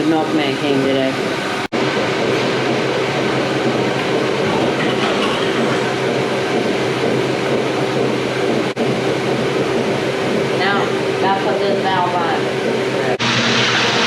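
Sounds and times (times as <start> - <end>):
pump humming: 0.0 - 14.0
water rushing through lines: 0.0 - 14.0.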